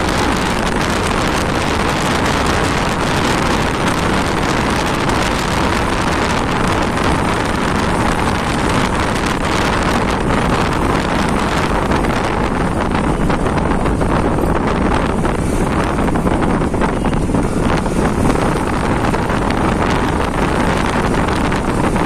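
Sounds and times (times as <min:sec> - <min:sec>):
motorcycle engine: 0:00.0 - 0:22.0
road noise: 0:00.0 - 0:22.0
wind buffeting microphone: 0:00.0 - 0:22.0.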